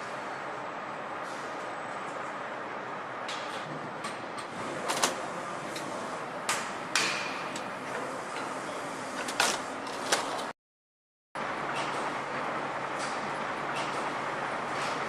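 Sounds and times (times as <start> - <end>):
steady background hum: 0.0 - 10.6, 11.4 - 15.0.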